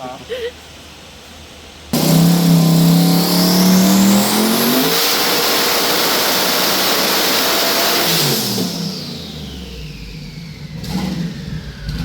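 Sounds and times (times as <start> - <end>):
high turbo whine: 1.9 - 12.0
engine at full throttle: 2.0 - 12.0.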